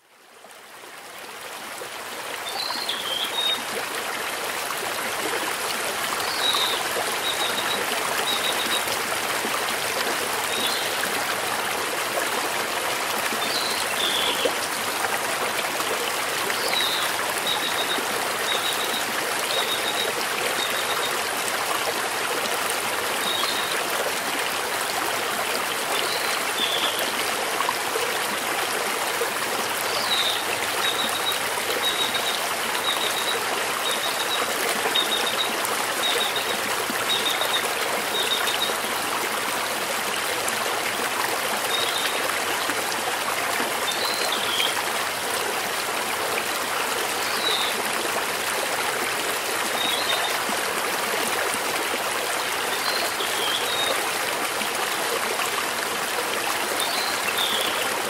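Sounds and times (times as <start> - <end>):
stream splashing over stones: 0.4 - 58.0.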